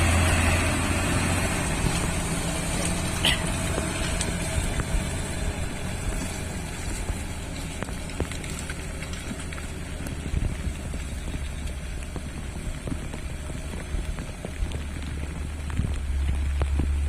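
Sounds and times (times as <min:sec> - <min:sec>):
truck diesel engine running: 0:00.0 - 0:17.0
sharp raindrop ticks: 0:01.9 - 0:17.0.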